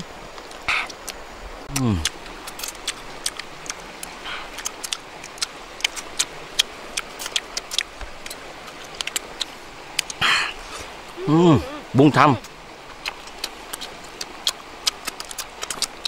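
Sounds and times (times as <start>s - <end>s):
man chewing with mouth clicks: 0.0s - 11.0s, 12.4s - 16.0s
steady hiss: 0.0s - 16.0s.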